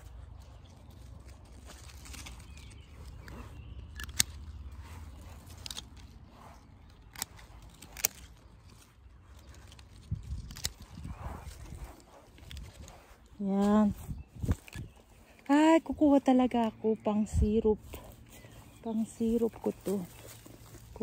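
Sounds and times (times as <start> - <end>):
leaves rustling: 0.0 - 21.0
shears snipping stems: 0.1 - 17.0, 18.8 - 21.0.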